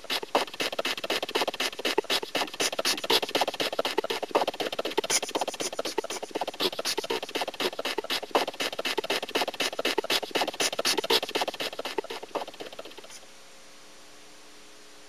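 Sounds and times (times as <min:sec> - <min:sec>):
faint hum: 0:00.0 - 0:15.0
tape hiss: 0:00.0 - 0:15.0.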